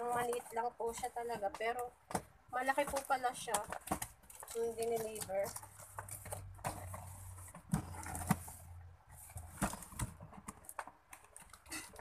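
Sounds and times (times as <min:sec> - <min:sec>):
cardboard box rustling: 0:00.0 - 0:12.0.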